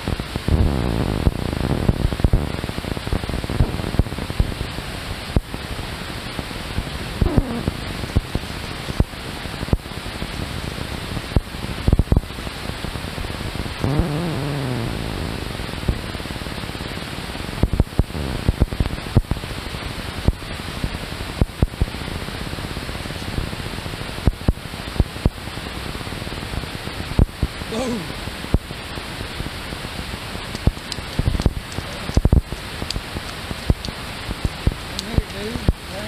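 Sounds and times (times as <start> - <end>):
creek water flowing: 1.3 - 36.0.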